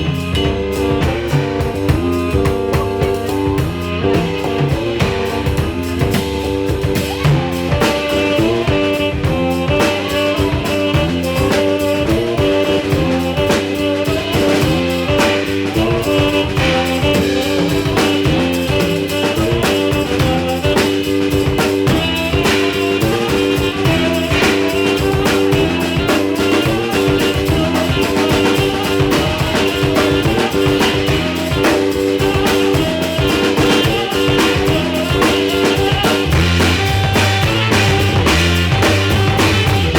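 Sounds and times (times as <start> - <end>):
drum kit beat: 0.0 - 39.9
guitar playing: 0.0 - 39.9.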